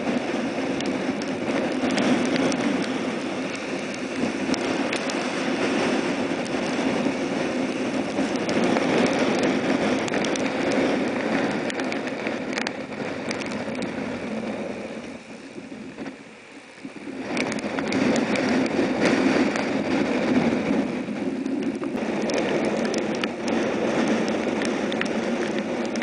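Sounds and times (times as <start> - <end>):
rain spatter: 0.0 - 26.0
strong wind on microphone: 0.0 - 26.0.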